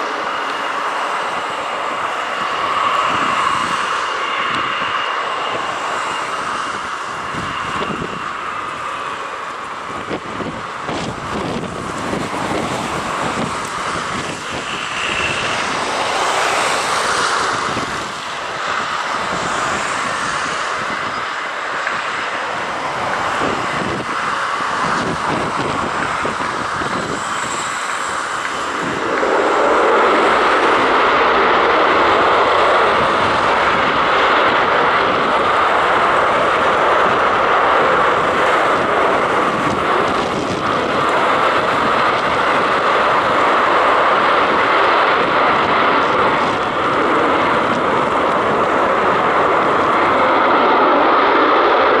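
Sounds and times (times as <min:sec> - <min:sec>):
aircraft engines whining: 0:00.0 - 0:52.0
wind buffeting microphone: 0:00.0 - 0:52.0.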